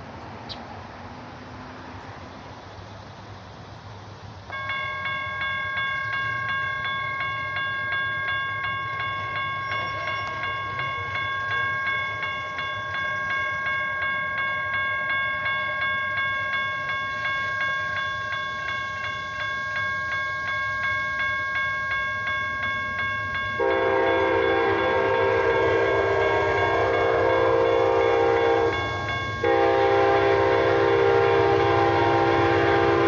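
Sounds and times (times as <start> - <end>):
railroad crossing bell ringing: 4.4 - 33.0.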